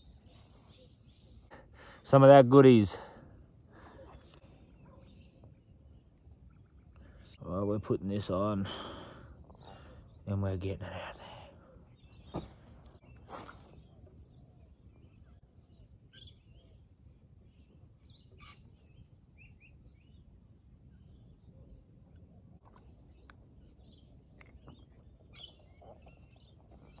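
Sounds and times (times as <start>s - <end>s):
small birds chirping: 0.0s - 2.4s, 3.7s - 27.0s.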